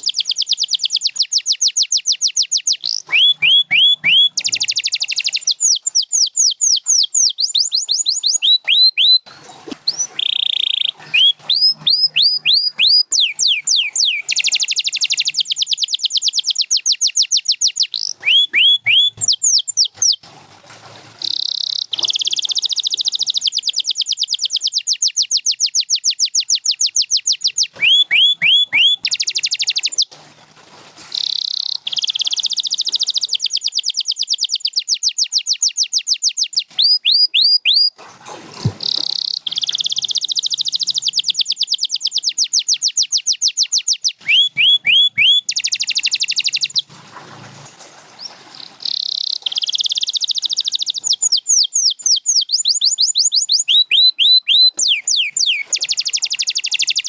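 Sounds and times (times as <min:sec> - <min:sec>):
canary singing trills: 0:00.0 - 0:20.2, 0:21.2 - 0:30.1, 0:31.2 - 0:38.0, 0:38.6 - 0:46.9, 0:48.1 - 0:57.0.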